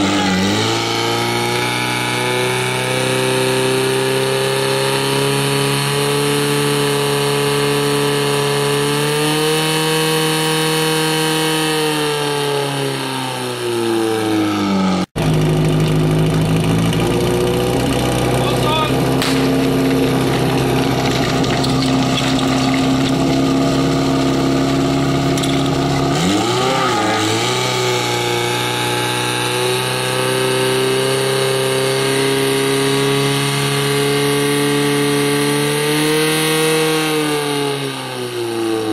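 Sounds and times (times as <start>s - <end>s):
pump engine running hard: 0.0s - 38.9s.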